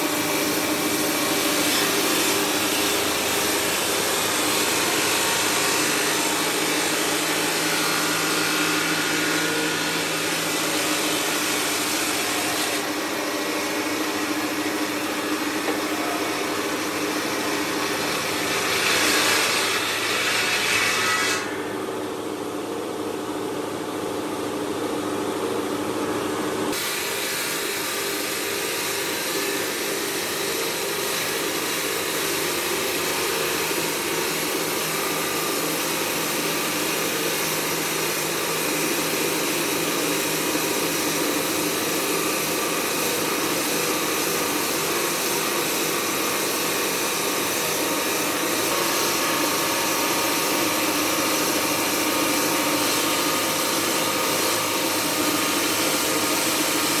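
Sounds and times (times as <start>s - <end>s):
loud machinery hiss: 0.0s - 21.8s, 26.7s - 57.0s.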